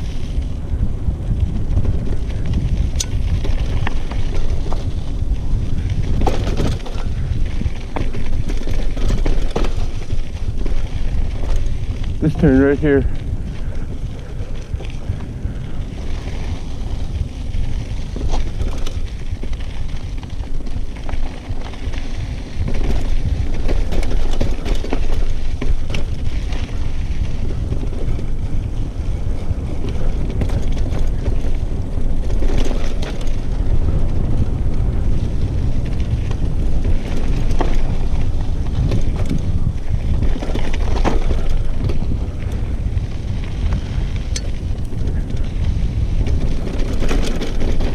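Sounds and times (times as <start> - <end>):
bike knocks and rattles: 0.0 - 47.9
bike tyres on dirt: 0.0 - 47.9
wind buffeting microphone: 0.0 - 47.9.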